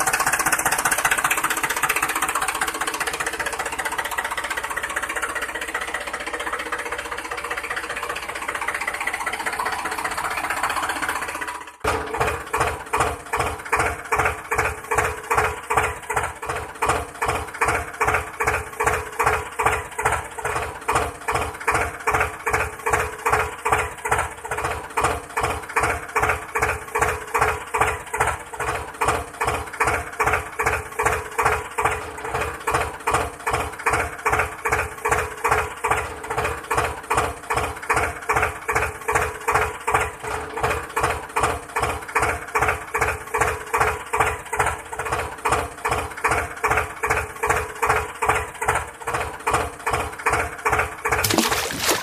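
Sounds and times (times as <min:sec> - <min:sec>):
tractor engine chugging: 0:00.0 - 0:51.2.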